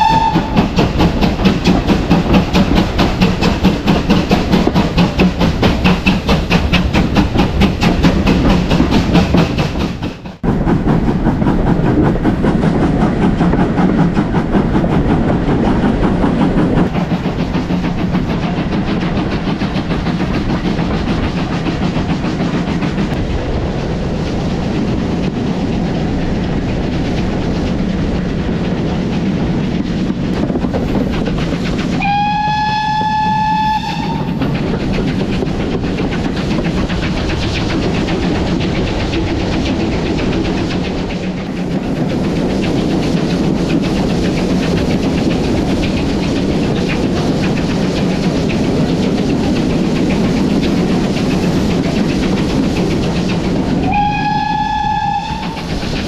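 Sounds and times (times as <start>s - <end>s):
steam locomotive exhaust beats: 0.0s - 56.0s
train running rumble: 0.0s - 56.0s.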